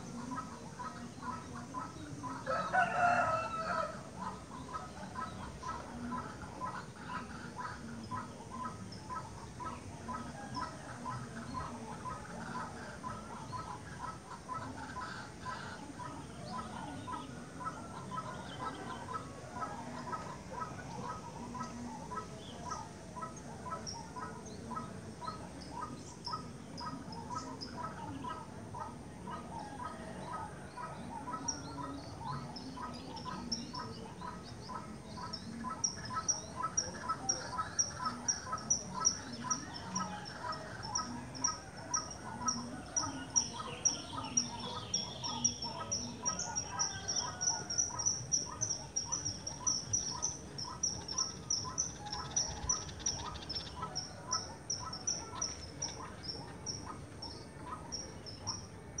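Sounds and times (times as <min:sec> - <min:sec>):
lower bird chirping: 0:00.0 - 0:59.0.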